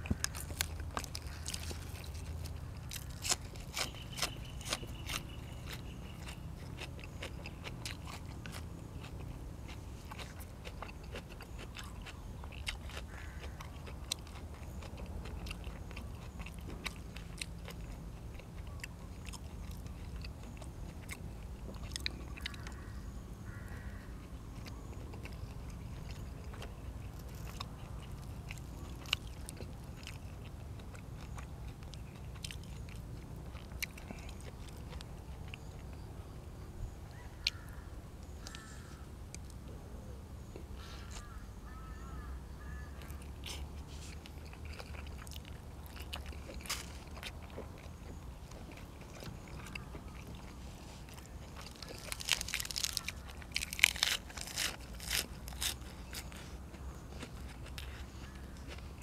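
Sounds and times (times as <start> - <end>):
person chewing and crunching food: 0.0 - 22.9, 23.5 - 36.4, 37.1 - 39.8, 40.5 - 59.0
steady low hum: 0.0 - 59.0.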